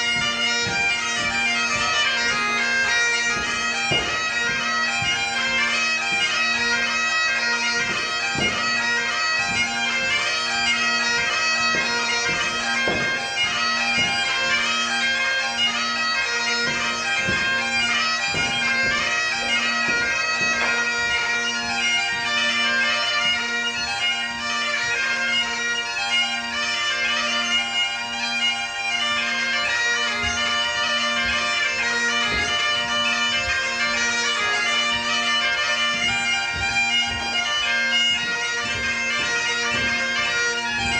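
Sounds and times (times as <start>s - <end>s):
bagpipes playing a dance tune: 0.0s - 40.9s
dancers' steps on a wooden floor: 0.0s - 40.9s.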